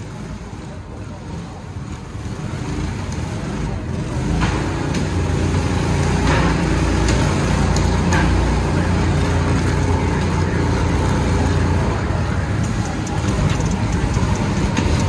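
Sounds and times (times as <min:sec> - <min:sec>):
kart engine rumble: 0:00.0 - 0:15.0.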